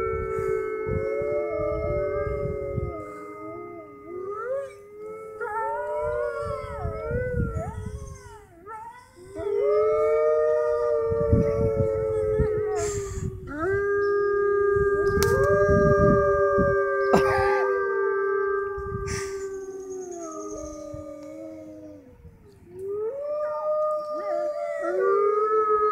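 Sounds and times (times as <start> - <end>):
wolves howling in chorus: 0.0 - 25.9.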